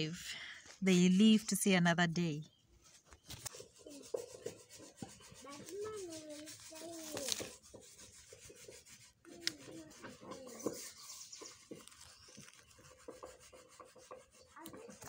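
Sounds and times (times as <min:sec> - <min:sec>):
fingers rustling through soil: 0:02.8 - 0:15.0.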